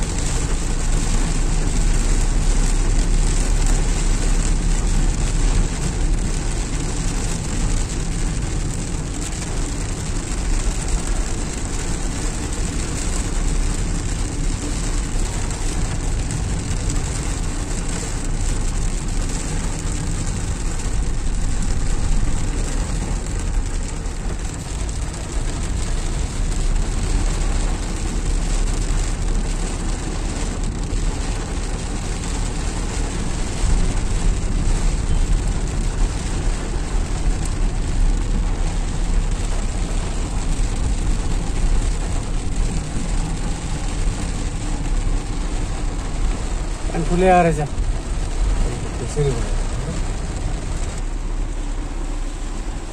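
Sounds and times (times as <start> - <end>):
car engine and tyres rumbling: 0.0 - 52.9
rain and road spray hiss: 0.0 - 52.9.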